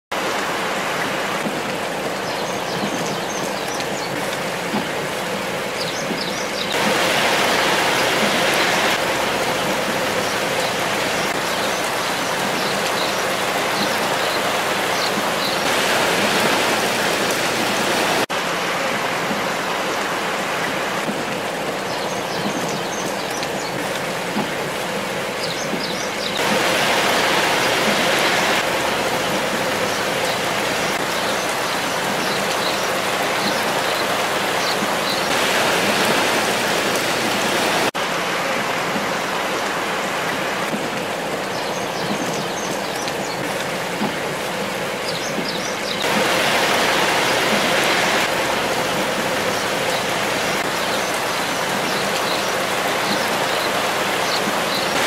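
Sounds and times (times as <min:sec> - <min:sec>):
heavy rain splashing into water: 0:00.1 - 0:55.0.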